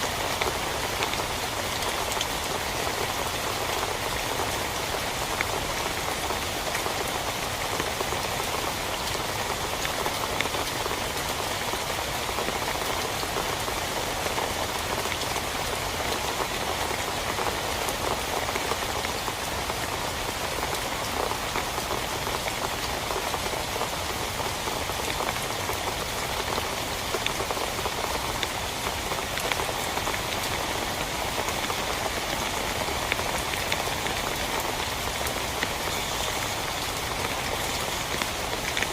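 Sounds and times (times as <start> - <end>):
rain falling on a tent: 0.0 - 38.9.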